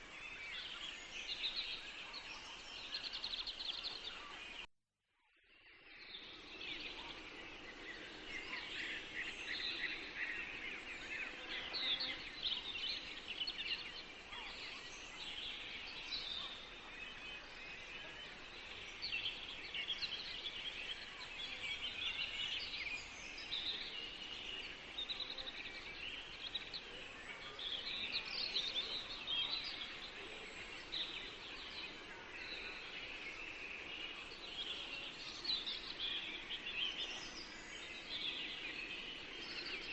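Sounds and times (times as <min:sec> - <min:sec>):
songbirds chirping and trilling: 0:00.0 - 0:04.7, 0:05.4 - 0:39.9
outdoor background hiss: 0:05.6 - 0:39.9.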